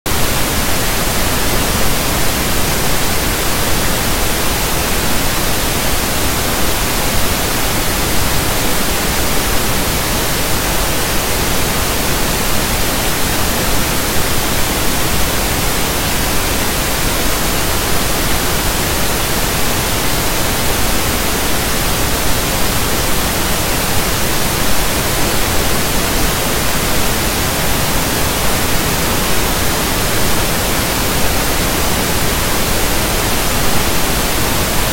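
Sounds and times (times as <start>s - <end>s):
static hiss: 0.1s - 34.9s.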